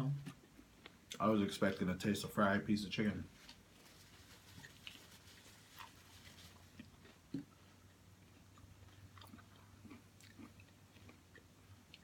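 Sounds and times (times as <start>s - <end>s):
low steady hum: 0.0s - 12.0s
people chewing food: 0.1s - 1.9s, 3.3s - 12.0s.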